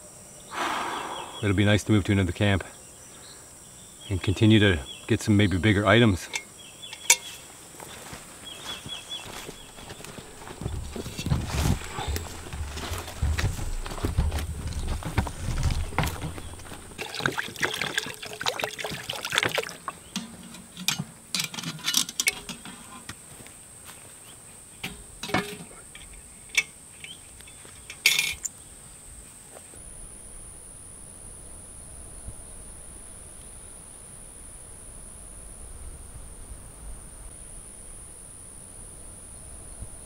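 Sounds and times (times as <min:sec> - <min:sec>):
insects buzzing: 0:00.0 - 0:40.0.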